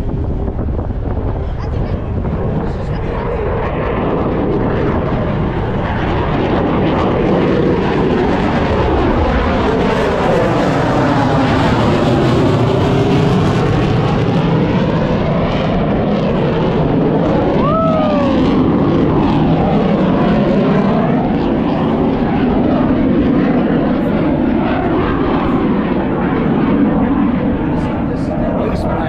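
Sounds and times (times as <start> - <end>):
aircraft engine flying past: 0.0 - 29.0.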